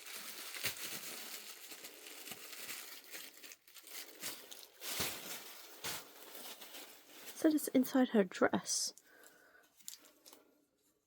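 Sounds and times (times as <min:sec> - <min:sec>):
packaging crinkling and rustling: 0:00.0 - 0:07.8, 0:09.2 - 0:10.5.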